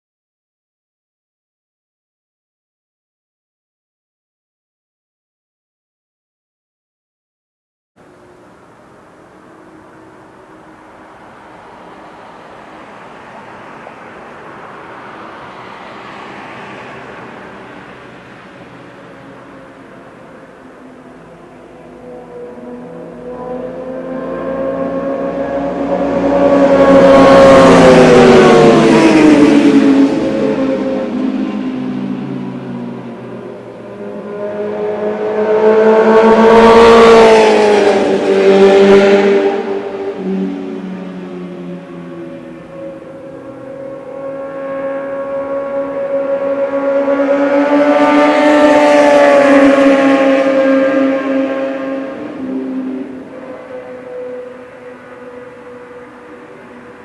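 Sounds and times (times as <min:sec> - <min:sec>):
vehicle passing by: 0:09.6 - 0:57.0.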